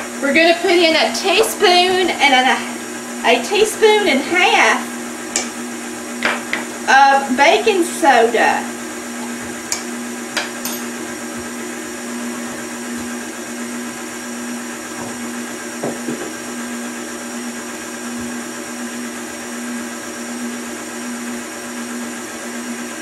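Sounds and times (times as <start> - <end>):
beater mixing batter in metal bowl: 0.0 - 23.0
stand mixer motor hum: 0.0 - 23.0.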